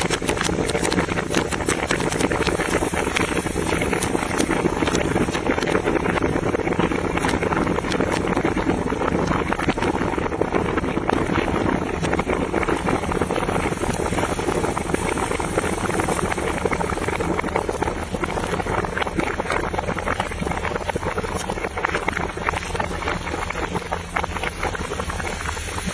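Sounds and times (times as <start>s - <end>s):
liquid pouring: 0.0s - 25.9s
popcorn crackling and sizzling: 0.0s - 25.9s.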